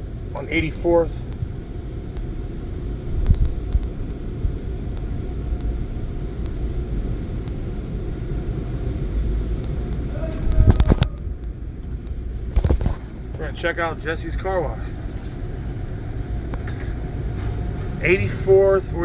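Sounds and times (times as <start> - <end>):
van engine low rumble: 0.0 - 19.0.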